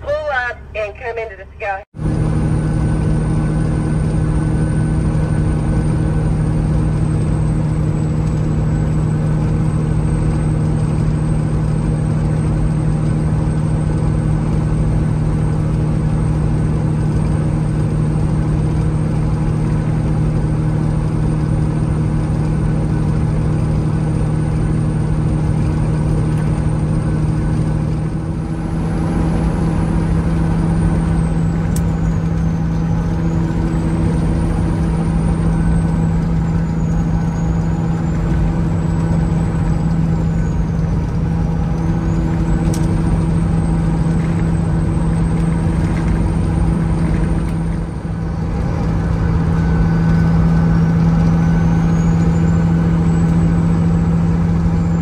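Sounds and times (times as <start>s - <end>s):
diesel engine drone: 0.0s - 55.0s
road rumble: 0.0s - 55.0s.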